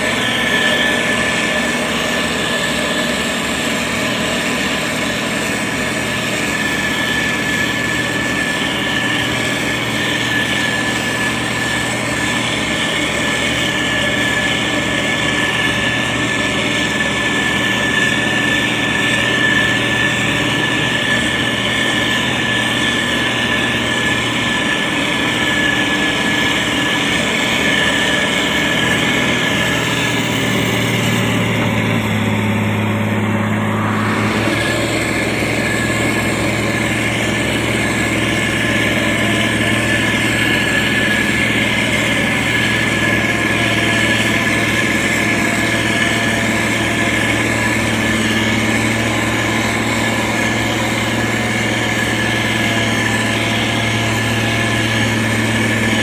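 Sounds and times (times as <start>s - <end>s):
heavy diesel engine running: 0.0s - 56.0s
steady high whine: 0.0s - 56.0s.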